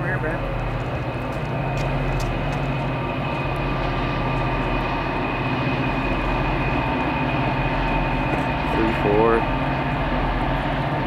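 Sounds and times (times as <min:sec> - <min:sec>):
constant tones: 0:00.0 - 0:11.0
diesel locomotives engine drone: 0:00.0 - 0:11.0.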